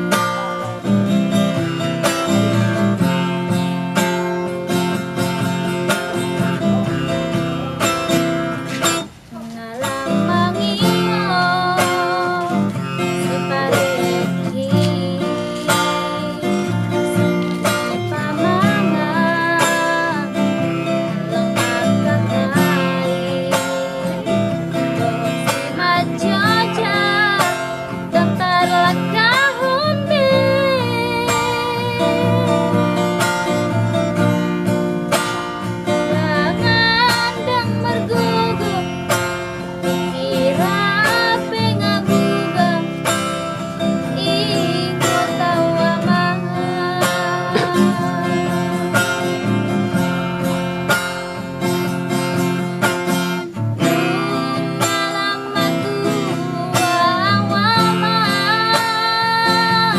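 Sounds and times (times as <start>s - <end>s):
acoustic guitar: 0.0s - 59.9s
woman singing: 0.0s - 59.9s.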